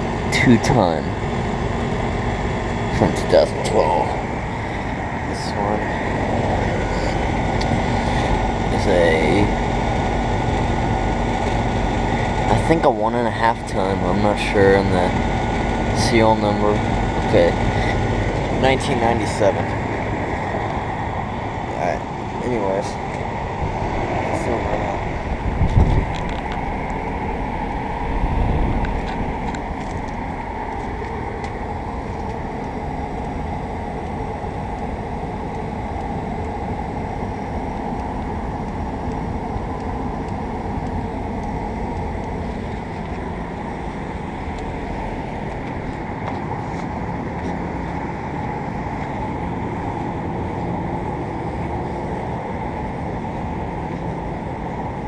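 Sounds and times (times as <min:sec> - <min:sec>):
low rumble: 0:00.0 - 0:53.6
air conditioner unit running: 0:00.0 - 0:55.0.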